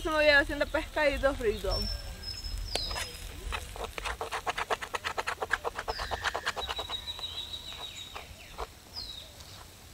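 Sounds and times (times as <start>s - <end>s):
downward-sliding whistled bird calls: 0.6s - 9.7s.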